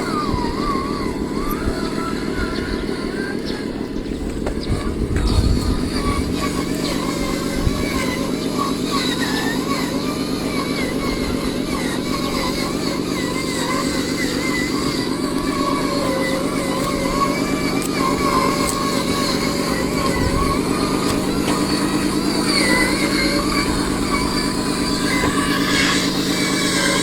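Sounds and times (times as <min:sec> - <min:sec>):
model truck engine rumble: 0:00.0 - 0:27.0
wavering thin whine: 0:00.0 - 0:27.0.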